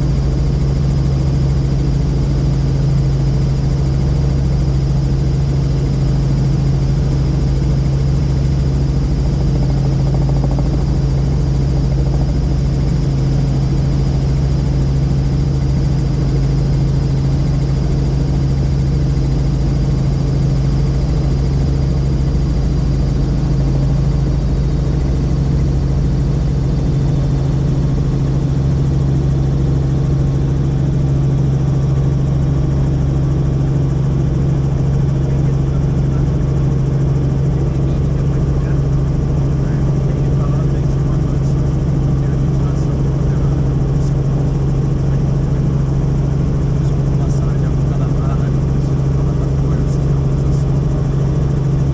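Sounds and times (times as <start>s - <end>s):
helicopter cabin drone: 0.0s - 51.9s.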